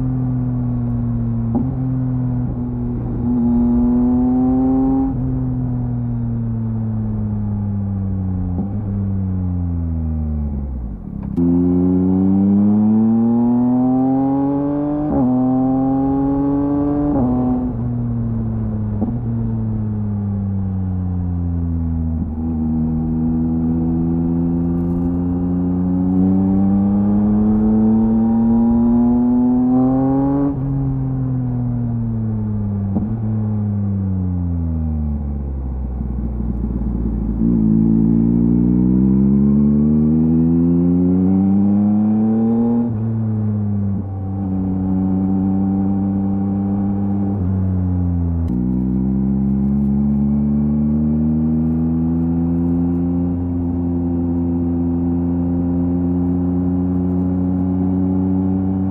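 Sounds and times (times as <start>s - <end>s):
motorcycle engine revving: 0.0s - 5.6s, 11.3s - 19.2s, 22.1s - 34.6s, 35.3s - 58.9s.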